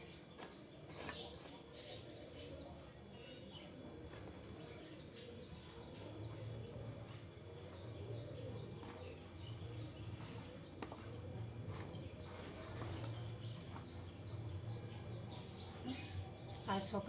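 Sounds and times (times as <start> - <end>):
hands kneading sticky dough: 0.2 - 16.7.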